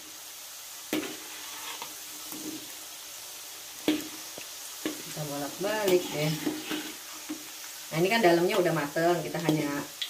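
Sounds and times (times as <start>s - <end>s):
pastries sizzling in oil: 0.0s - 10.0s.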